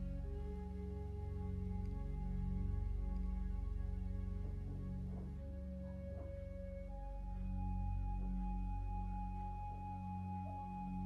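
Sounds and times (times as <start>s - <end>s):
ambient music with held tones: 0.0s - 11.0s
deep low drone: 0.0s - 11.0s.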